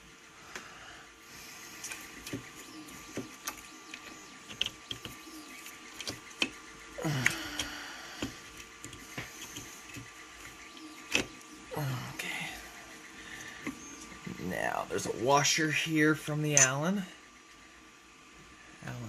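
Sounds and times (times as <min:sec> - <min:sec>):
faint hum of a printer: 0:00.0 - 0:19.0.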